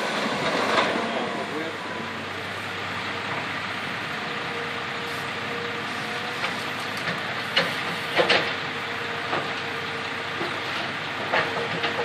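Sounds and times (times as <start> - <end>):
diesel engines running: 0.0 - 12.0.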